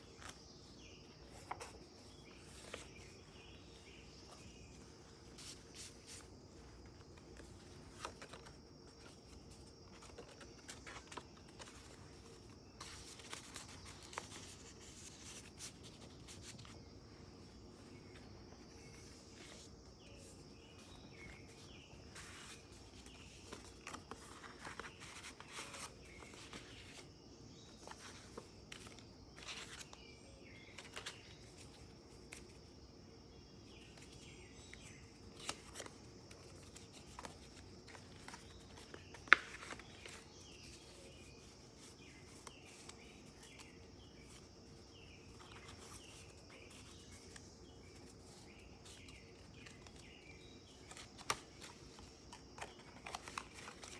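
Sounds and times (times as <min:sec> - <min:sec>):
paper pages rustling: 0:00.0 - 0:27.1, 0:27.7 - 0:32.6, 0:33.6 - 0:53.9.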